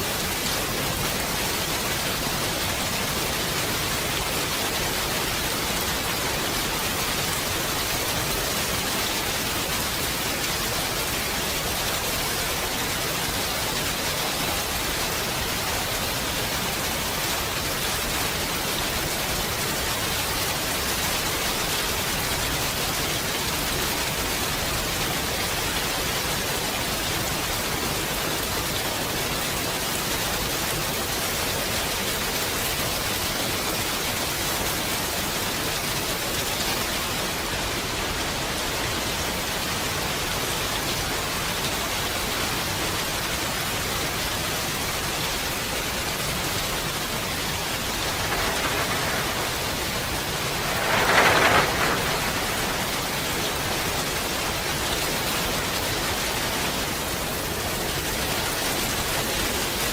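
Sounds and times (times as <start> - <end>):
dense rain hissing: 0.0 - 59.9.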